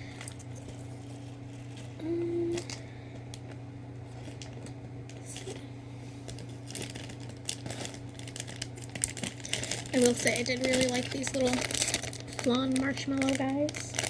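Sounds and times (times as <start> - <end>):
candy packaging crinkling: 0.0 - 5.6, 6.2 - 14.0
low room hum: 0.0 - 14.0.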